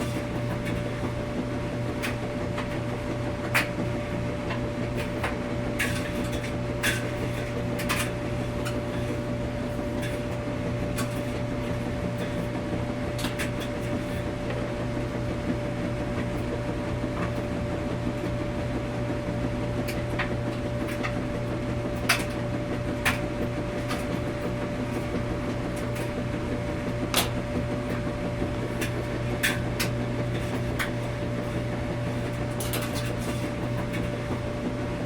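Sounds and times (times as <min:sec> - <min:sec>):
washing machine humming: 0:00.0 - 0:35.0.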